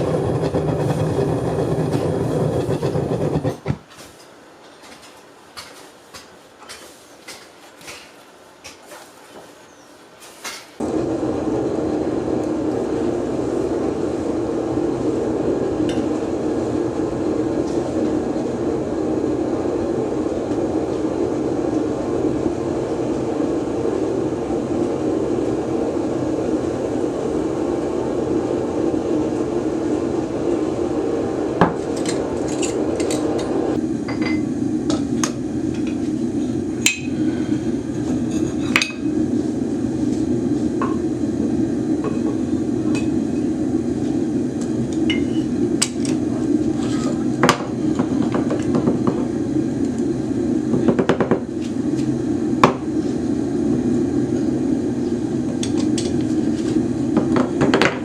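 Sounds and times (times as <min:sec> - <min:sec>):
gas burner rushing: 0:00.0 - 0:04.2, 0:10.8 - 0:58.0.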